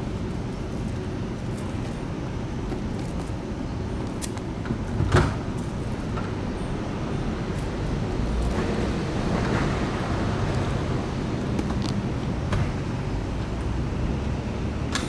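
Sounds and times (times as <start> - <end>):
low rumble of street noise: 0.0 - 15.0.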